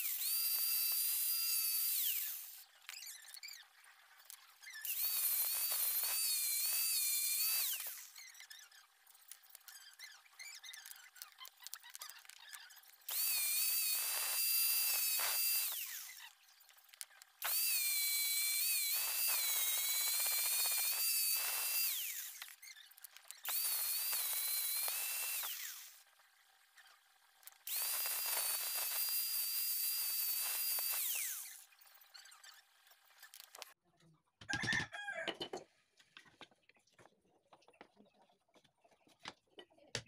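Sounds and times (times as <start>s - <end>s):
small electric drill whining: 0.0s - 33.8s.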